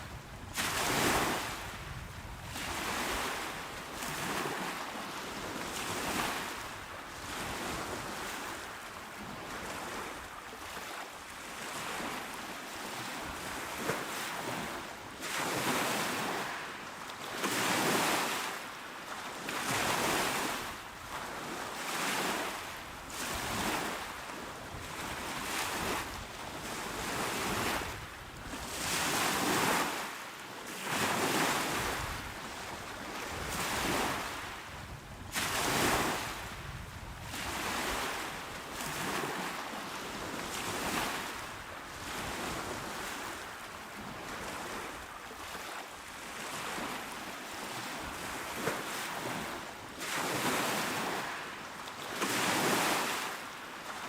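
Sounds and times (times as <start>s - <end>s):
small waves washing onto shore: 0.0s - 54.0s.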